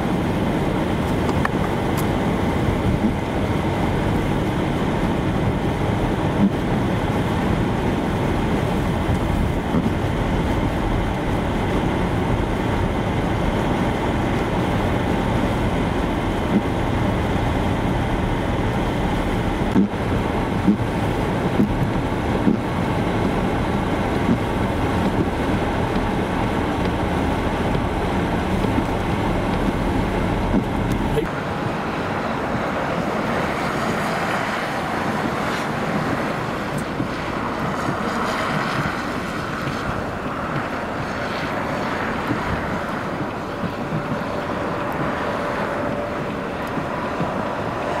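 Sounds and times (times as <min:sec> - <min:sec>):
low vehicle rumble: 0:00.0 - 0:48.0
wind blowing across microphone: 0:00.0 - 0:48.0.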